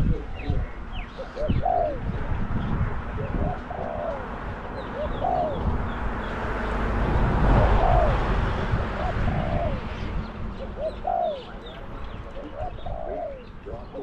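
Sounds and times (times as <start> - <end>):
doves cooing: 0.0 - 14.0
small birds chirping: 0.0 - 14.0
vehicle passing: 1.3 - 14.0.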